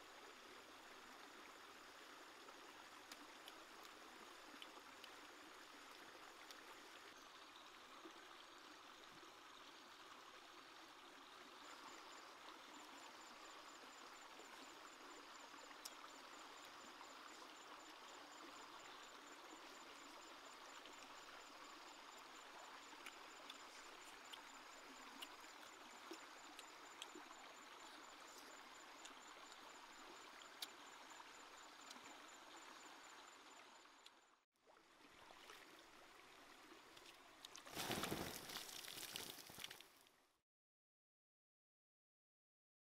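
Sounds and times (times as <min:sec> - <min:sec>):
stream running over rocks: 0:00.0 - 0:33.7, 0:34.8 - 0:40.0.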